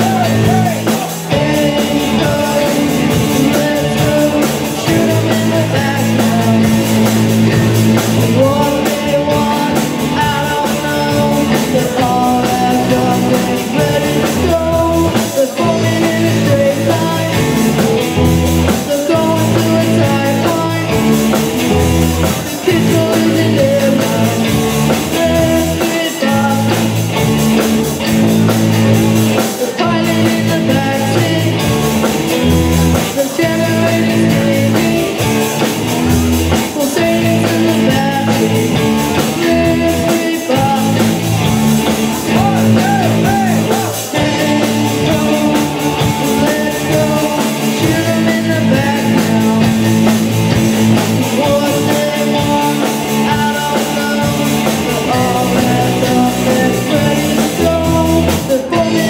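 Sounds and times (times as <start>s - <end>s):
punk rock band playing: 0.0s - 59.0s.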